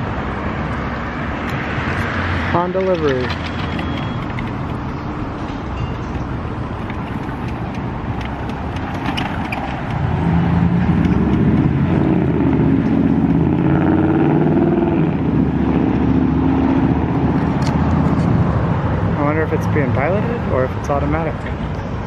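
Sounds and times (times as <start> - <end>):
city street traffic: 0.0 - 22.0
vehicle engine humming: 0.0 - 22.0.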